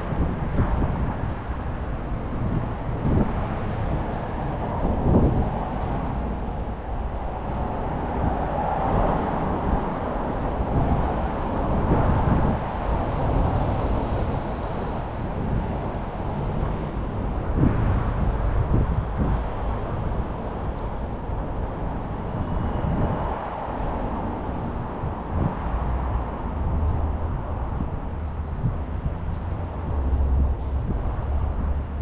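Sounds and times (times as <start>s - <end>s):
city road traffic: 0.0s - 32.0s.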